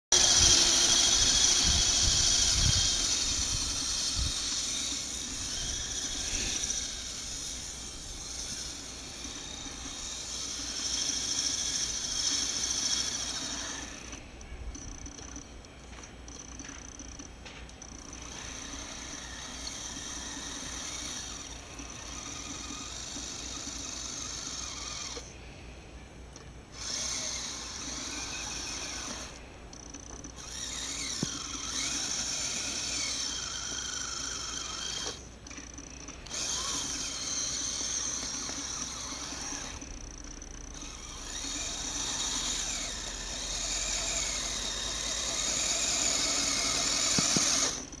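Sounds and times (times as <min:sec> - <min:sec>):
small motor whining: 0:00.1 - 0:25.5, 0:26.4 - 0:48.0.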